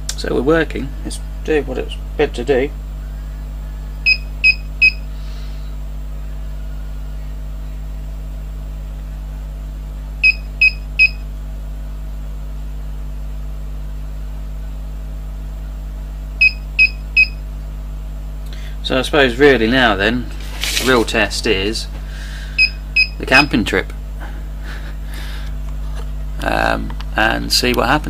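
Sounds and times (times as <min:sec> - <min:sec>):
power supply humming: 0:00.0 - 0:28.0.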